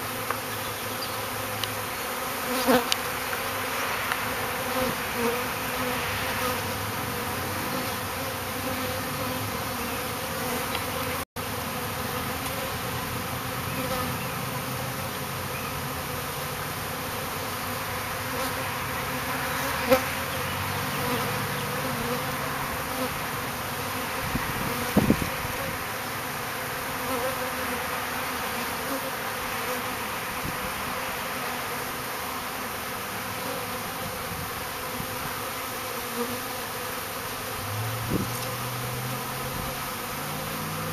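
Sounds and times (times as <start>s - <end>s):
honeybees buzzing: 0.0s - 40.9s.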